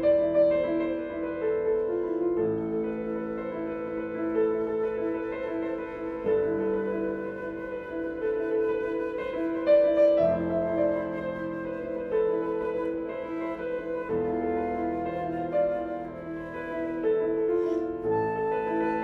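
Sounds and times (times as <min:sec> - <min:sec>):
flute melody: 0:00.0 - 0:19.0
piano rippling figure: 0:00.0 - 0:19.0.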